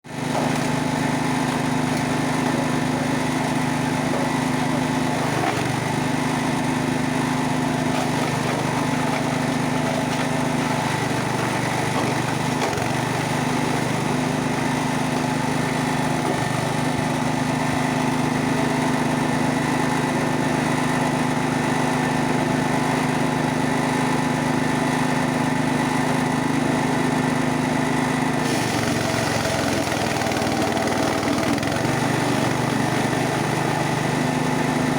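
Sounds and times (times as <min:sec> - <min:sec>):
wood chipper engine running: 0:00.1 - 0:34.9.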